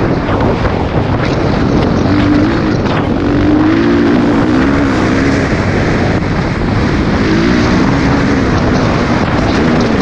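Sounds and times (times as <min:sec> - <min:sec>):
dirt bike engine running: 0:00.0 - 0:10.0
wind noise on microphone: 0:00.0 - 0:10.0.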